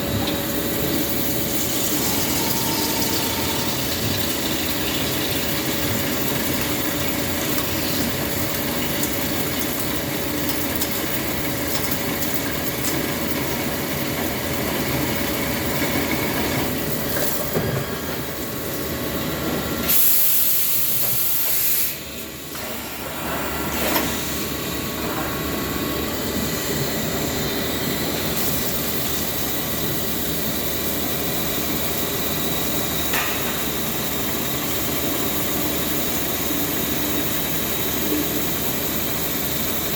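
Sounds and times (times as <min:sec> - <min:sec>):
lathe mechanical hum: 0:00.0 - 0:39.9.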